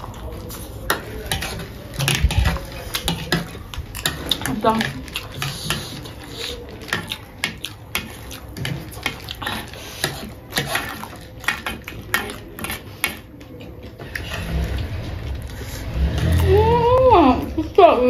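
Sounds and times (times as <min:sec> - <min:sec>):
chewing and crunching: 0:00.0 - 0:16.8
metal spoons scraping paper plates: 0:00.0 - 0:17.2.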